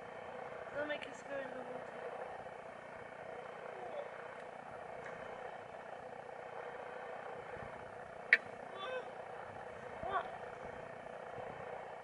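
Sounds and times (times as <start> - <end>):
wind and sea noise: 0.0 - 12.0.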